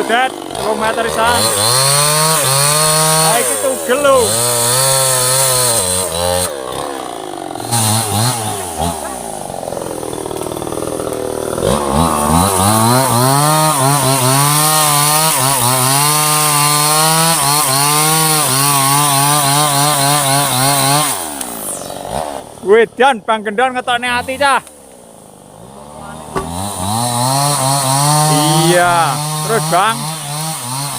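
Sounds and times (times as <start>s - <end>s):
chainsaw cutting log: 0.0s - 30.9s.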